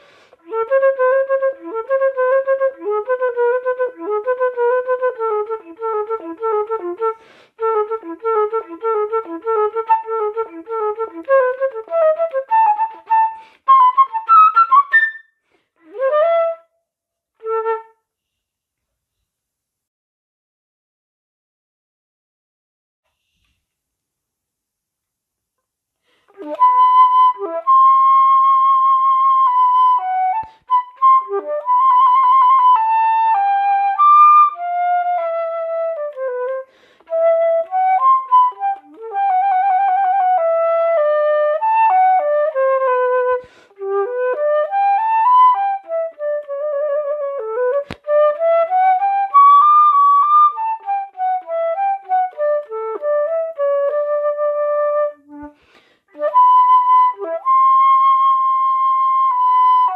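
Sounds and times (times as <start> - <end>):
flute melody: 0.0 - 18.4, 26.1 - 59.9.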